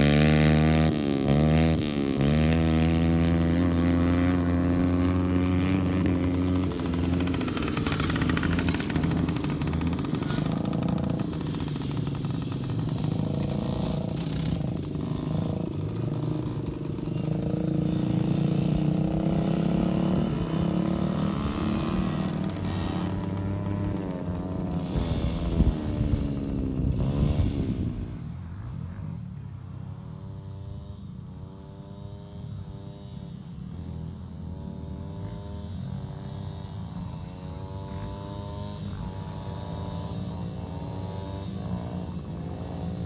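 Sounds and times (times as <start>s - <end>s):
dirt bike engines: 0.0s - 43.0s.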